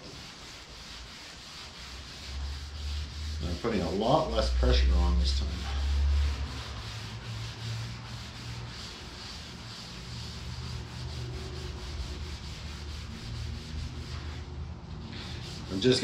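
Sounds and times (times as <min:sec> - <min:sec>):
hand scrubbing wet metal: 0:00.0 - 0:16.0.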